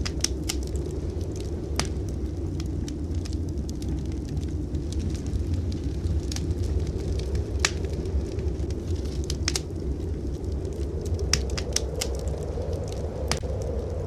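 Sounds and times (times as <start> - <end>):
blizzard wind rumble: 0.0 - 14.0
wood fire crackling and popping: 0.0 - 14.0.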